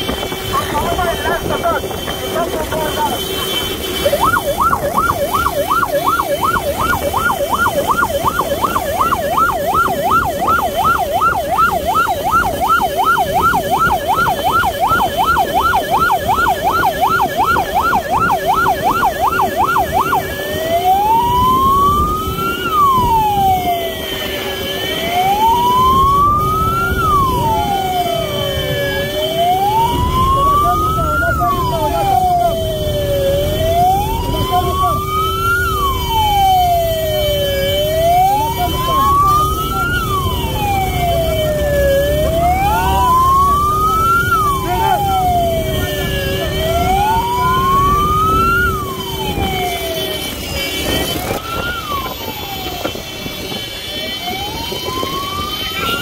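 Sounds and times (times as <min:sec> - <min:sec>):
electronic siren yelping and wailing: 0:00.0 - 0:56.0
motorcycle engines running: 0:00.0 - 0:56.0.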